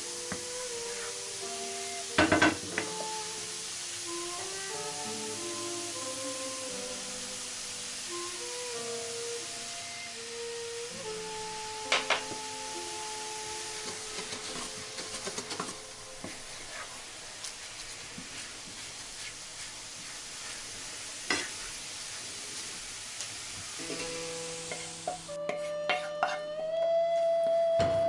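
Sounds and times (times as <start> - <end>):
sauce sizzling in a frying pan: 0.0 - 27.3.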